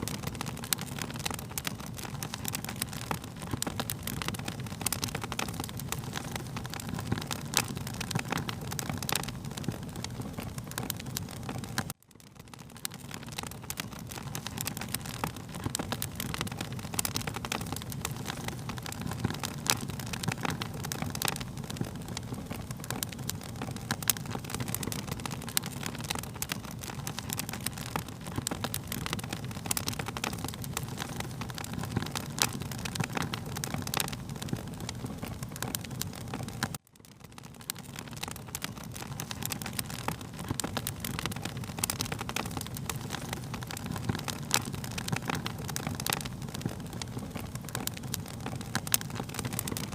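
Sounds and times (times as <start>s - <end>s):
fire popping and snapping: 0.0s - 49.9s
low rumble of flames: 0.0s - 49.9s.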